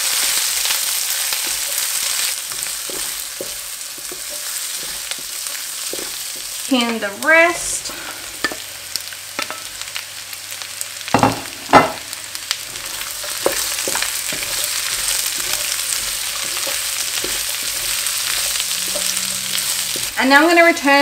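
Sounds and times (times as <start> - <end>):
spatula scraping wok: 0.0 - 8.8, 11.4 - 20.4
vegetables sizzling in a wok: 0.0 - 21.0.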